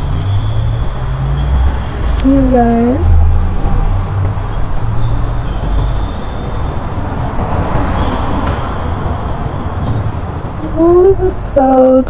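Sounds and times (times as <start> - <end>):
low rumble: 0.0 - 11.4.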